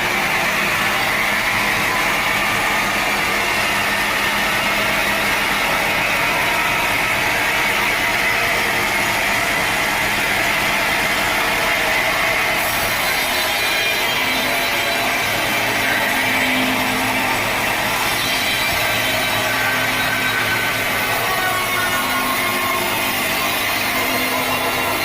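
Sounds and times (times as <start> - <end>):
log saw running: 0.0 - 25.0.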